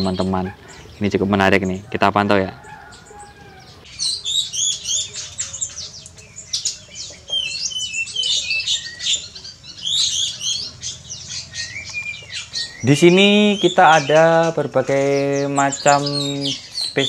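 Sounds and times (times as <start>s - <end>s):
birds chattering: 0.0s - 17.0s.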